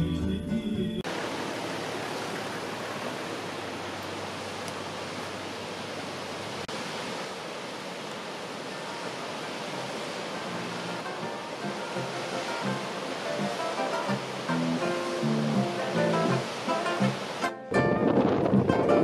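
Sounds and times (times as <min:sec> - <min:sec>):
rushing waterfall water: 0:01.0 - 0:17.8.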